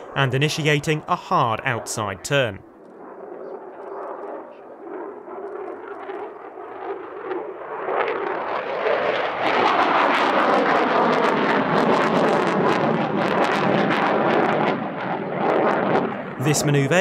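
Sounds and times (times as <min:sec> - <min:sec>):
fighter jet engine roar: 0:00.0 - 0:03.3, 0:04.8 - 0:17.0.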